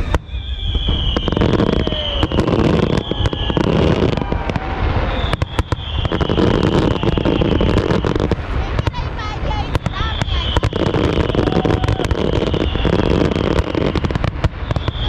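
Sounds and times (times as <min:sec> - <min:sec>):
high descending firework whistle: 0:00.0 - 0:08.5, 0:09.9 - 0:15.0
fireworks bangs and crackles: 0:00.0 - 0:15.0.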